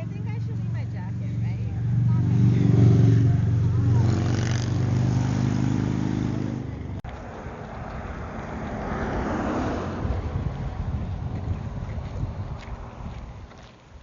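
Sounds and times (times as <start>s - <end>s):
car engine humming: 0.0s - 14.0s
rushing rumble: 0.0s - 14.0s.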